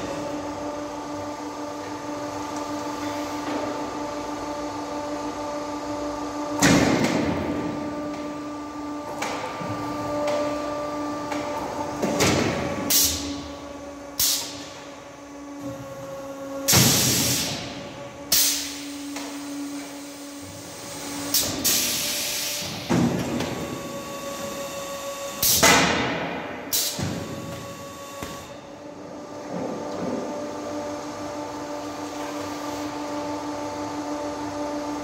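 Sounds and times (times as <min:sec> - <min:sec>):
machine motor hum: 0:00.0 - 0:35.0.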